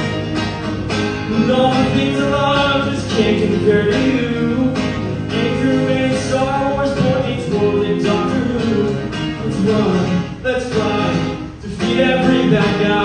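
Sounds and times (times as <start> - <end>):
guitar strumming: 0.0 - 13.0
man singing: 1.3 - 13.0.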